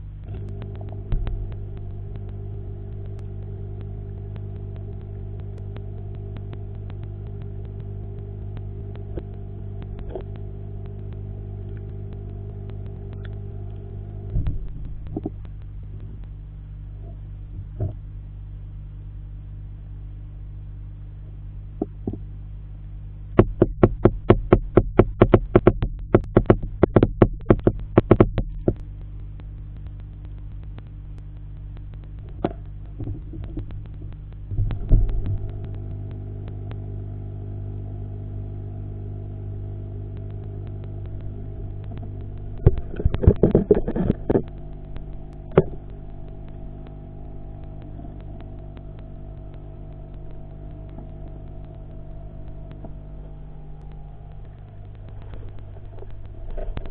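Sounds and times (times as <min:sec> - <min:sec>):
rapid sharp clicks: 0:00.0 - 0:16.6, 0:23.3 - 0:56.9
higher steady tones: 0:00.0 - 0:17.4, 0:23.6 - 0:56.9
aquarium pump humming: 0:00.0 - 0:56.9.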